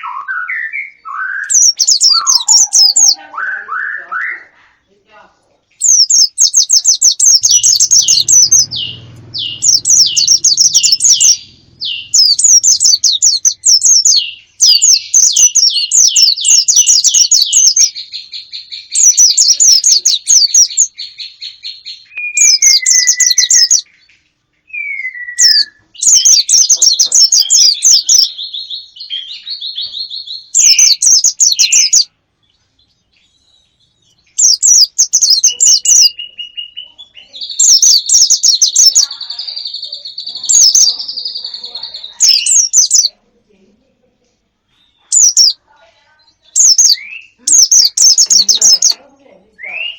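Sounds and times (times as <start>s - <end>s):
songbird chirping: 0.0s - 49.9s.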